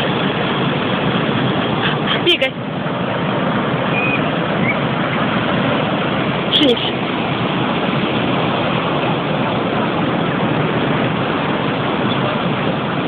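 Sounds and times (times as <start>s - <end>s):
breaking surf: 0.0s - 13.0s
wind: 0.0s - 13.0s.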